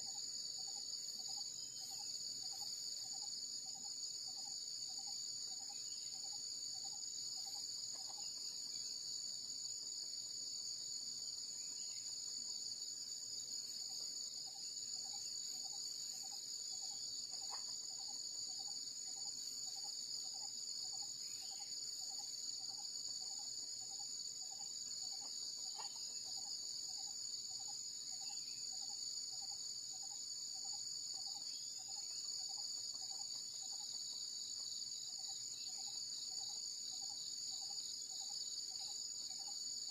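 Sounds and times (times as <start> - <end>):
insects trilling: 0.0 - 39.9
low repeating insect call: 0.0 - 39.9.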